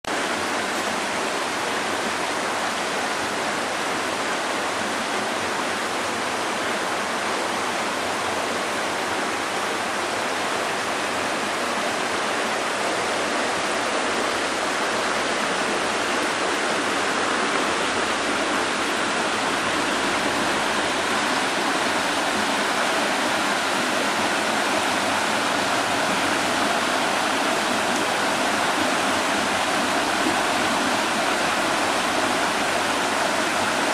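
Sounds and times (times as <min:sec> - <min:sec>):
stream flowing over rocks: 0:00.1 - 0:33.9.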